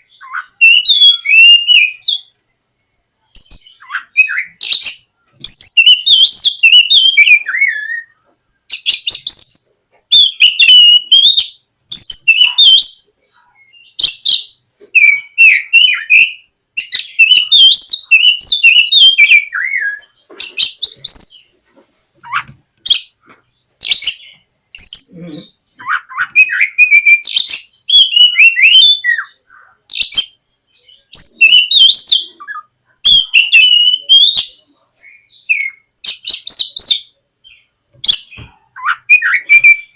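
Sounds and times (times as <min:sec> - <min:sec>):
bird singing whistles and warbles: 0:00.0 - 0:02.3, 0:03.2 - 0:21.5, 0:22.2 - 0:39.9.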